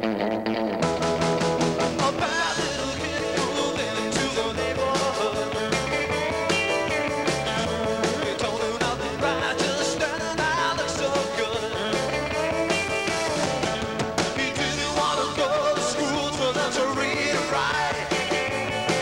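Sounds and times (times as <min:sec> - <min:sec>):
electric bass: 0:00.0 - 0:19.0
electric guitar: 0:00.0 - 0:19.0
drum kit: 0:00.8 - 0:19.0
person singing: 0:01.9 - 0:19.0.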